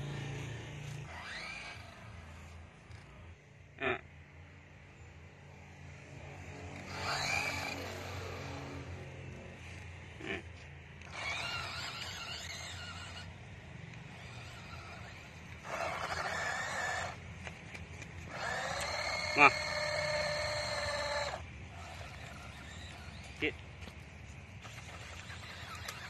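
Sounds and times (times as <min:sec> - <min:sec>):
toy truck electric motor whining: 0:00.0 - 0:03.4, 0:06.5 - 0:26.0.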